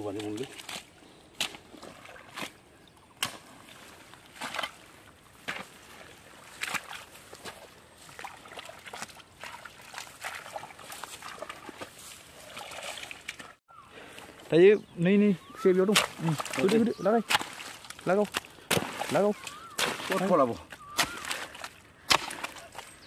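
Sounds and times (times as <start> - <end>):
hands scooping wet mud: 0.0 - 14.5, 15.5 - 23.0.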